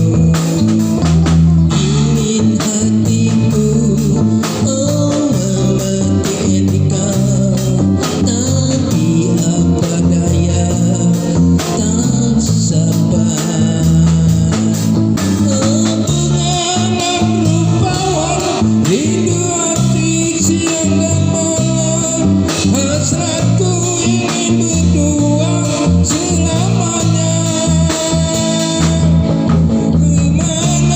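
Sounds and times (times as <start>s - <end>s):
loud music with guitar and singing: 0.0s - 30.9s.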